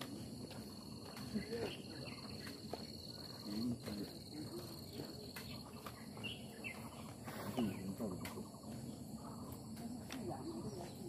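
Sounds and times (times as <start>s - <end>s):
faint outdoor background sound: 0.0s - 11.0s.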